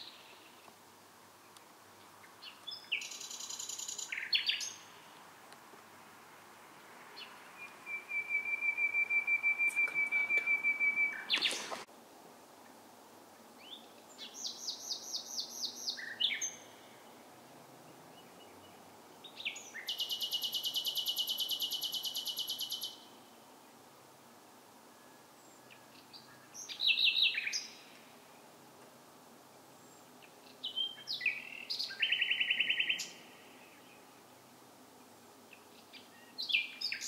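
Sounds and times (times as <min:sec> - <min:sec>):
songbird singing: 0:00.0 - 0:11.9, 0:12.6 - 0:24.0, 0:24.8 - 0:28.6, 0:29.5 - 0:37.0.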